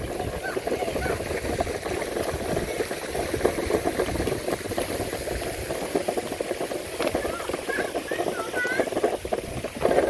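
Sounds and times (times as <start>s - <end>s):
skateboard wheels rolling on pavement: 0.0s - 10.0s.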